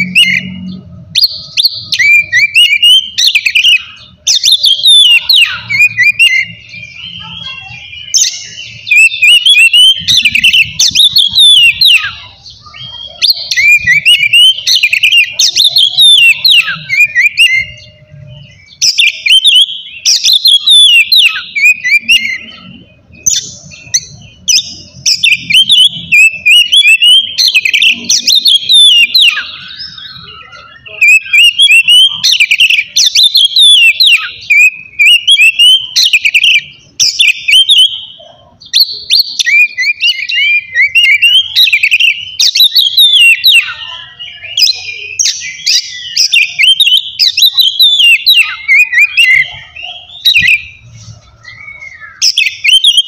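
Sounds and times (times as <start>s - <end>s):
bird singing whistles and chatter: 0.0s - 53.0s.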